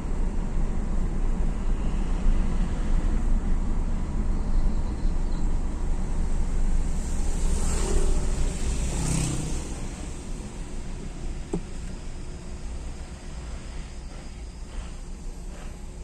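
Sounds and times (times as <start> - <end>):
low traffic rumble: 0.0 - 16.0
vehicles passing: 0.0 - 16.0.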